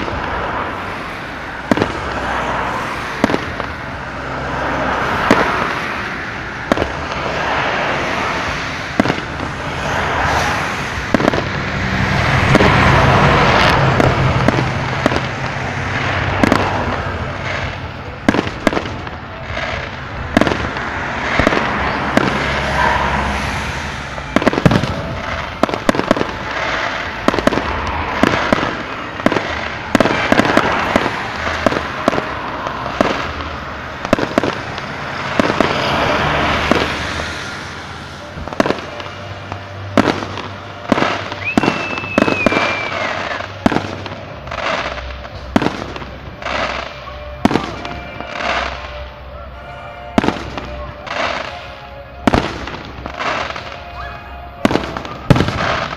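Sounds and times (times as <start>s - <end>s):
fireworks rushing hiss: 0.0s - 39.1s, 40.0s - 48.9s
fireworks bangs and crackles: 0.0s - 55.9s.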